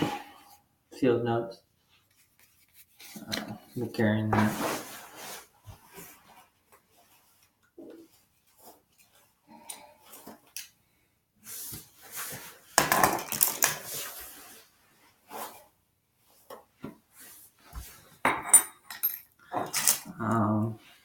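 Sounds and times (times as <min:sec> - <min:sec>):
rustling and clicking of small items: 0:01.9 - 0:10.8, 0:11.6 - 0:15.7, 0:16.3 - 0:20.8.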